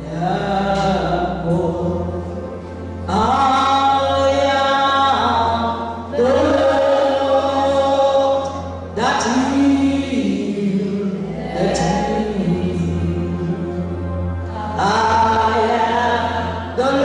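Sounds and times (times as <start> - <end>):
voices singing gospel song: 0.0 - 2.4, 3.1 - 17.0.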